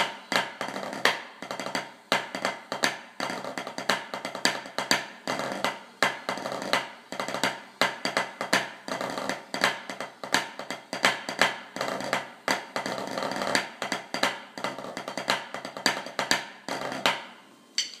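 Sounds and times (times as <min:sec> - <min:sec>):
drumsticks playing a drum: 0:00.0 - 0:18.0.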